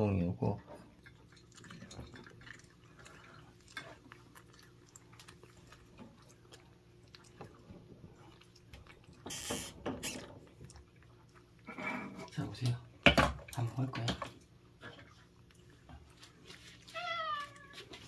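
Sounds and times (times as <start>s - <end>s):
cat chewing and licking food: 0.5s - 18.0s.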